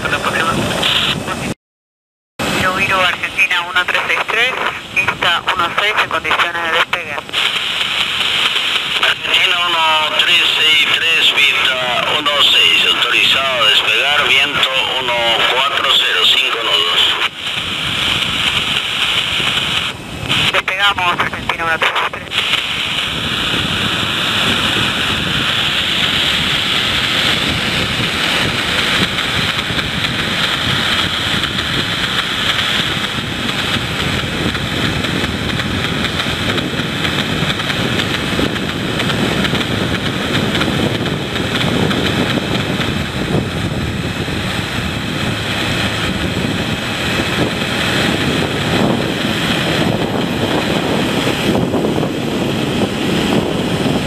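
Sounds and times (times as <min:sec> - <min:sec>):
jet airliner engines running: 0:00.0 - 0:01.6, 0:02.4 - 0:54.0.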